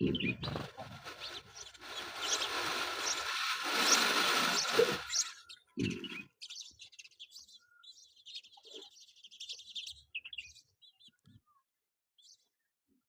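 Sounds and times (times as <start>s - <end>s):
small birds twittering: 0.0s - 11.6s.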